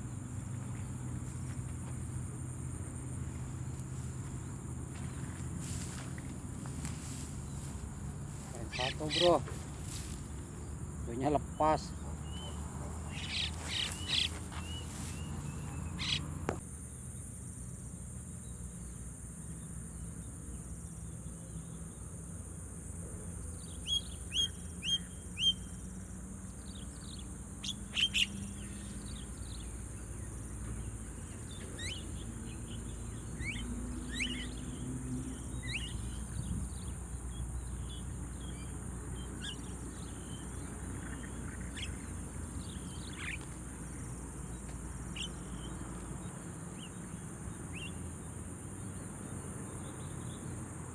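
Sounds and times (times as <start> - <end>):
birds chirping: 0.0 - 16.6, 23.6 - 50.6.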